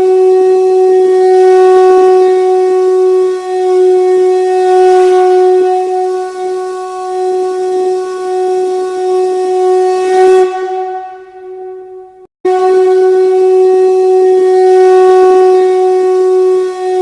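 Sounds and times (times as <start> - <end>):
conch shell trumpet note: 0.0 - 17.0.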